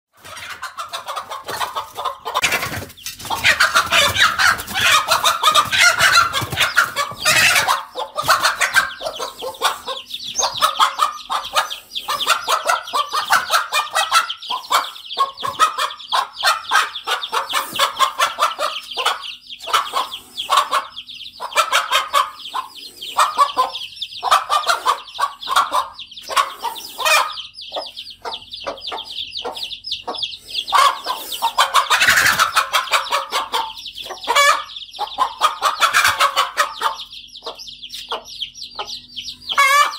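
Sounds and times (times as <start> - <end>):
chicks peeping: 0.2 - 39.9
hen alarm clucking: 0.2 - 39.9.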